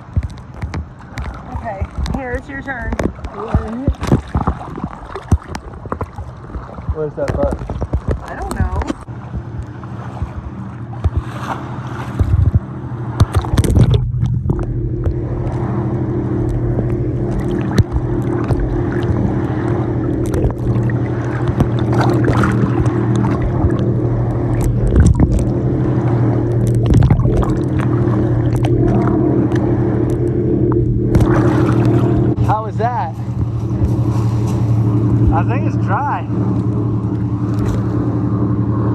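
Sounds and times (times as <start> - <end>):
boat engine droning: 0.0 - 38.9
water splashing: 0.0 - 38.9.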